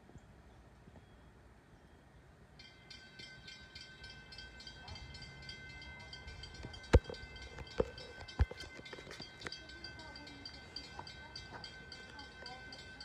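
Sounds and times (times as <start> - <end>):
low rumble of train: 0.0 - 13.0
train bell ringing: 2.6 - 13.0.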